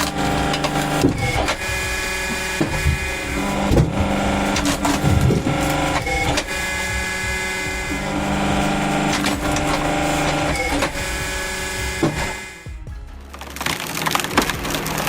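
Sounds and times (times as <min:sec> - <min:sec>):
firewood splitter humming: 0:00.0 - 0:15.0.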